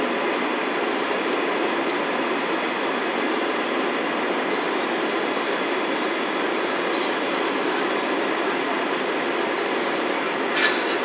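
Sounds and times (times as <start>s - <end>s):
jet engines and airflow rushing: 0.0s - 11.0s.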